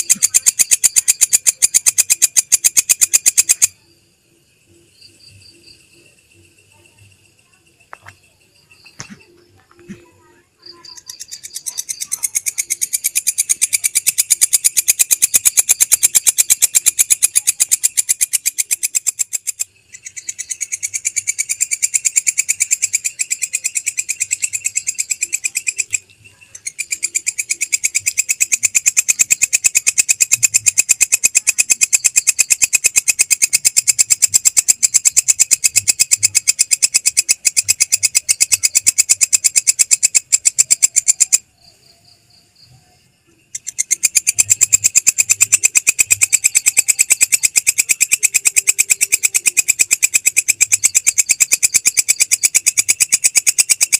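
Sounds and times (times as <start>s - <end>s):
bush cricket pulsing trill: 0.0s - 53.9s.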